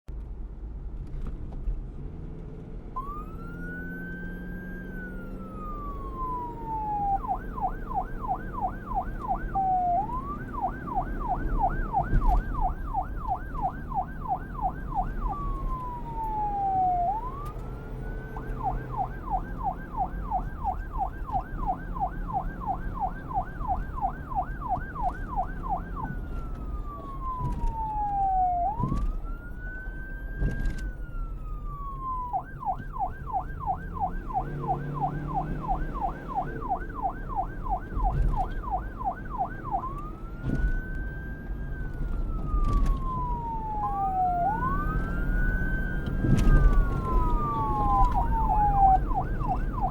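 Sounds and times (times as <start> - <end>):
police siren wailing and yelping: 3.0 - 49.9.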